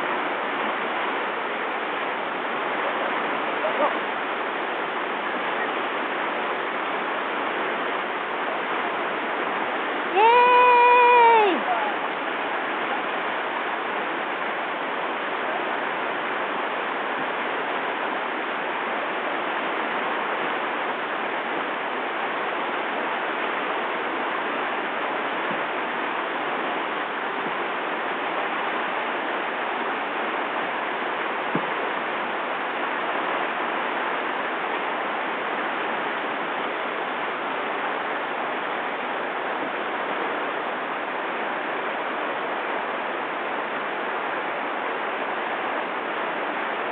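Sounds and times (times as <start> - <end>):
whitewater rushing: 0.0 - 46.9.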